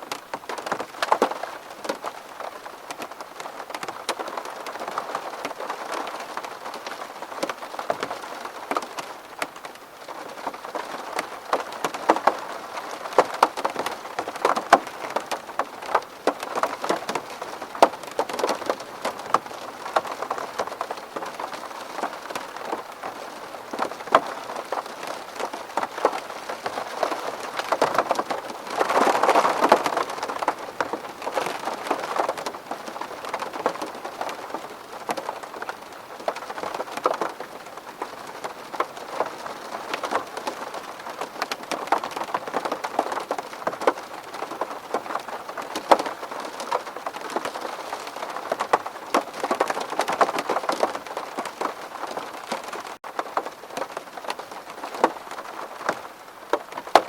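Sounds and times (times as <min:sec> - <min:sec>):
rain pattering on window: 0:00.0 - 0:57.0
raindrops ticking: 0:00.0 - 0:57.0.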